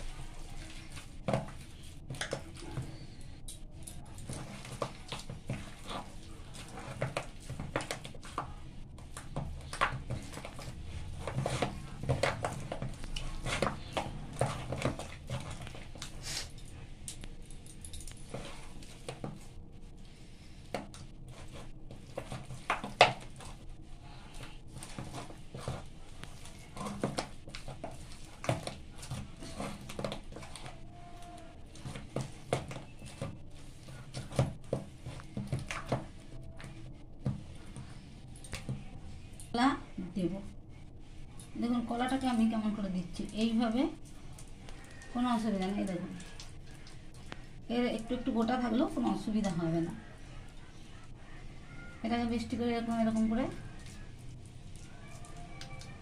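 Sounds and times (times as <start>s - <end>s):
dough squelching: 0.0s - 56.0s.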